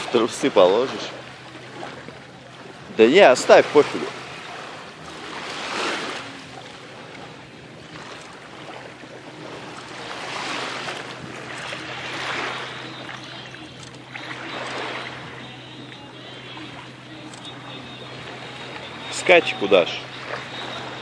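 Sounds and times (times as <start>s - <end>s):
small waves washing at shoreline: 0.0s - 21.0s
steady low hum: 0.0s - 21.0s.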